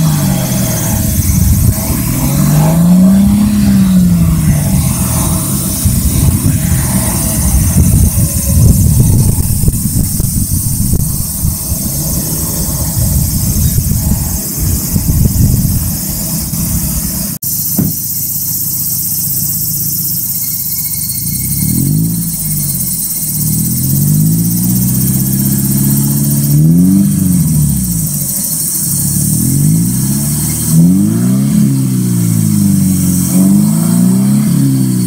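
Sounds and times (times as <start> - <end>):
car engine idling: 0.0 - 35.0
car exhaust rumble: 0.0 - 35.0.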